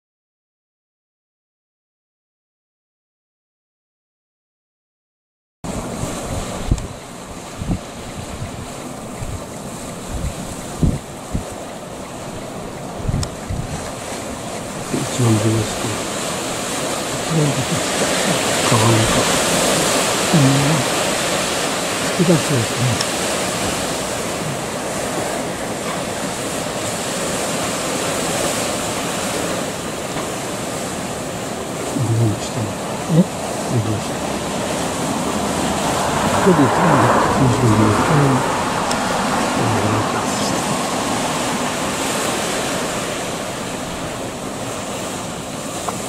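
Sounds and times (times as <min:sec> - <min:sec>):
sea surf washing on shore: 0:05.7 - 0:46.0.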